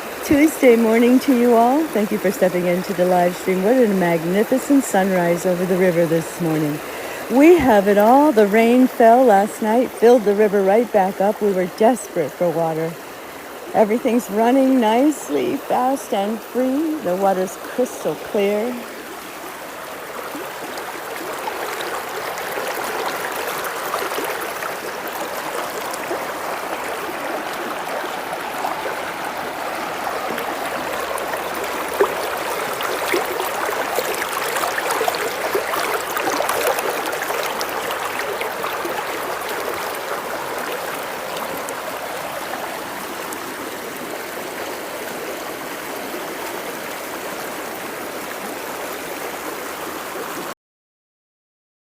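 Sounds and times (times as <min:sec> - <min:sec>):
river rushing: 0:00.0 - 0:50.5.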